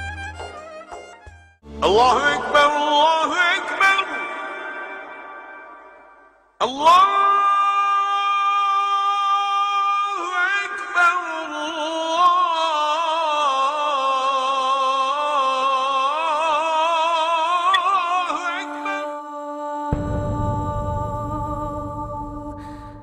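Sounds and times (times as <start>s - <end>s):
solo voice chanting: 1.8s - 23.0s.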